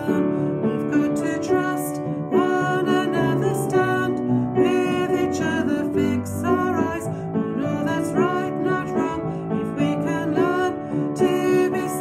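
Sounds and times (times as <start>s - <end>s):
piano accompaniment: 0.0s - 12.0s
woman singing: 0.0s - 12.0s.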